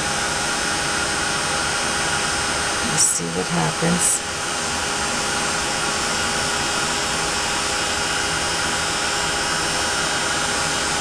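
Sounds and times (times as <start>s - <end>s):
heat tool blowing hot air: 0.0s - 11.0s.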